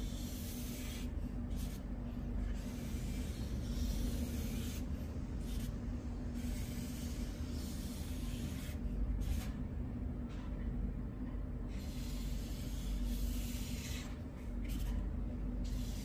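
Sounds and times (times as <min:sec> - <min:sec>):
marker scratching on paper: 0:00.0 - 0:09.6, 0:11.8 - 0:15.0, 0:15.6 - 0:16.0.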